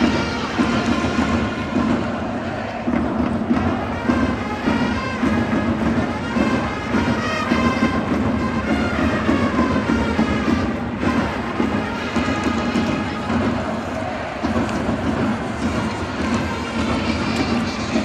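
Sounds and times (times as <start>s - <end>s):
cheering band with trumpets and drums: 0.0s - 18.0s.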